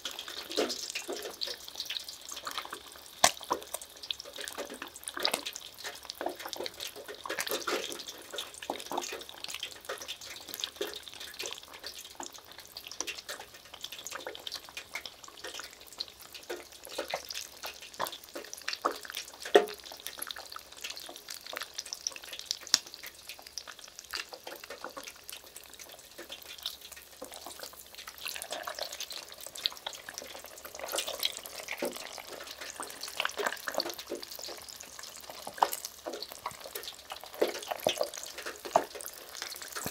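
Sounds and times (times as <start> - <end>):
fish lowered into hot oil: 0.0 - 39.9
oil bubbling and crackling: 0.0 - 39.9.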